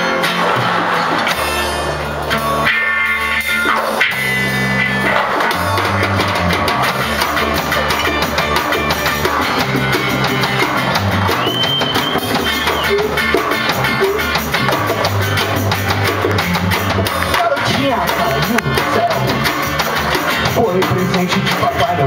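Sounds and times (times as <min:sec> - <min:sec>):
live band playing: 0:00.0 - 0:22.0
hand drum: 0:00.2 - 0:22.0.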